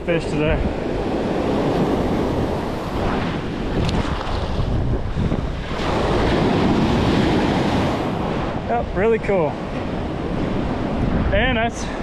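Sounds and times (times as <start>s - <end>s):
surf breaking on sand: 0.0s - 12.0s
wind buffeting microphone: 0.0s - 12.0s.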